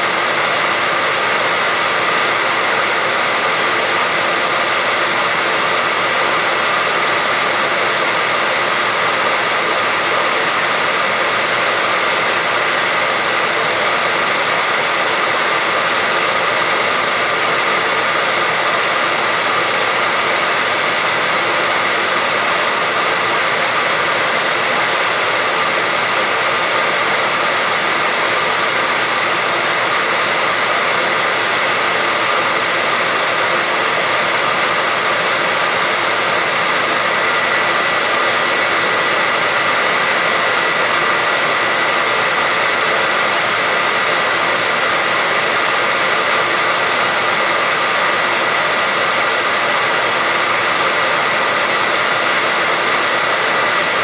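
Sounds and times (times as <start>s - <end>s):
hair dryer blowing: 0.0s - 54.0s
high fan motor whine: 0.0s - 54.0s.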